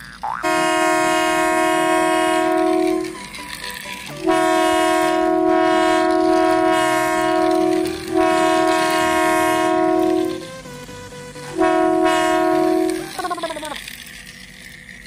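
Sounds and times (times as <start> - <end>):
toy running noise: 0.0 - 15.0
buzzy toy train horn: 0.4 - 13.9.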